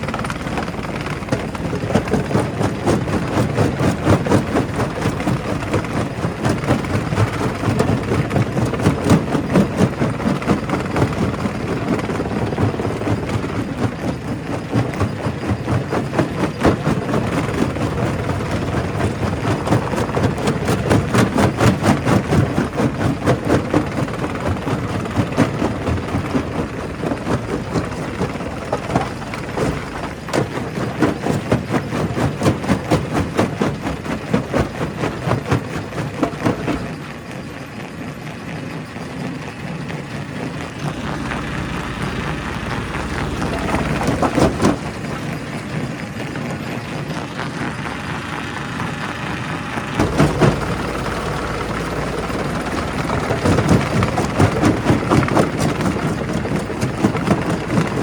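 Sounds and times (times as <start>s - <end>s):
crusher machinery running: 0.0s - 58.0s.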